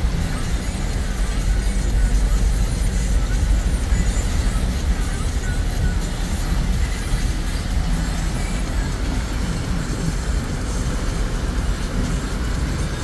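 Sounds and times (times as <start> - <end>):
engine and tyres rumbling through water: 0.0 - 13.0
rain and spray hiss: 0.0 - 13.0.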